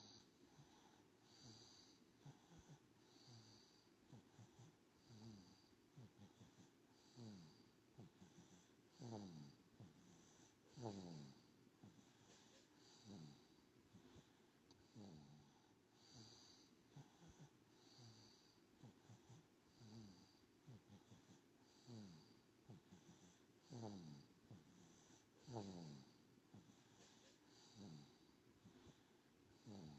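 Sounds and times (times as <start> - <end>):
baby snuffling and snoring: 0.0 - 29.9.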